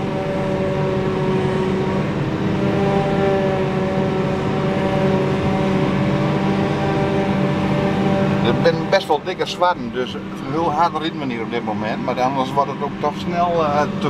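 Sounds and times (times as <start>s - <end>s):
tractor engine: 0.0s - 14.0s.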